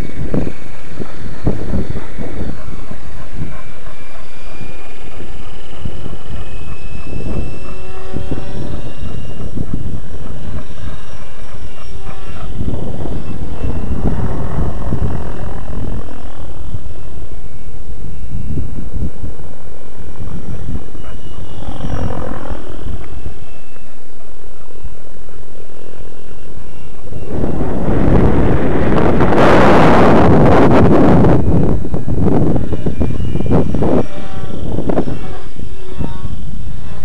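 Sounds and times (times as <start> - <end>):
rc helicopter rotor whine: 0.0 - 37.0
wind on microphone: 0.0 - 37.0.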